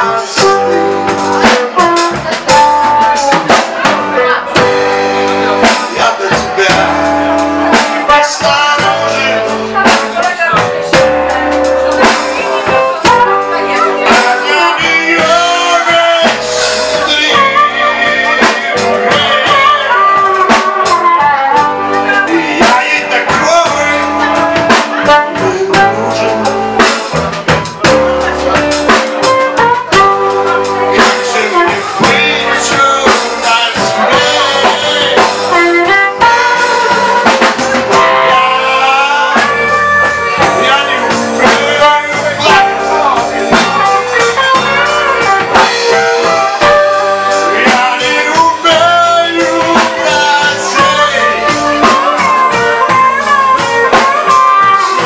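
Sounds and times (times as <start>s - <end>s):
drum kit: 0.0s - 55.0s
electric guitars: 0.0s - 55.0s
person singing: 0.0s - 55.0s
harmonica: 5.9s - 55.0s.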